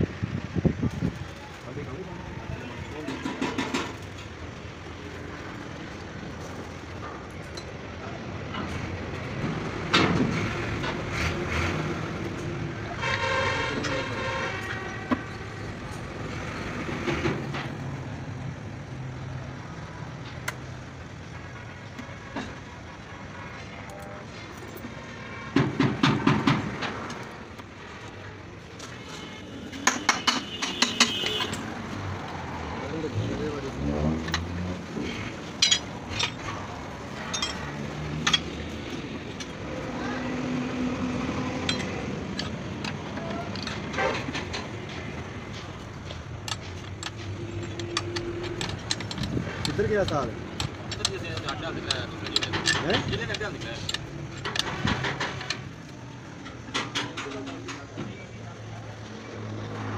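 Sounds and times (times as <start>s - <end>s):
vehicle running: 0.0s - 59.9s.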